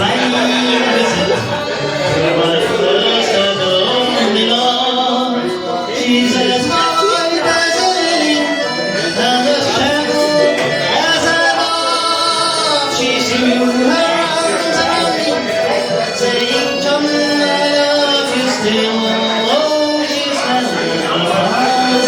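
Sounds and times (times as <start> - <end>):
live folk band playing: 0.0 - 22.0
person singing: 0.0 - 22.0.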